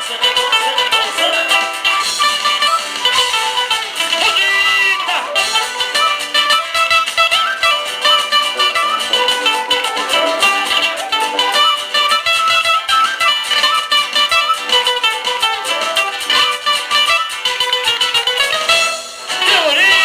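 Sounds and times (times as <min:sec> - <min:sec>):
flute melody: 0:00.0 - 0:20.0
strummed acoustic guitars: 0:00.0 - 0:20.0.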